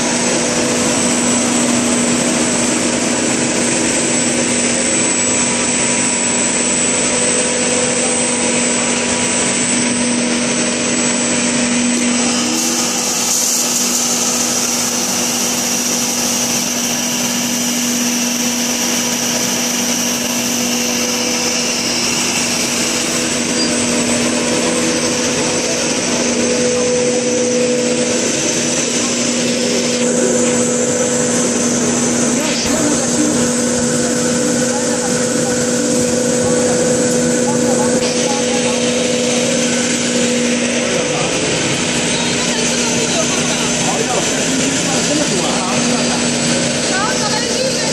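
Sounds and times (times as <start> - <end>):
high whine: 0.0 - 47.9
motors and blowers droning: 0.0 - 47.9.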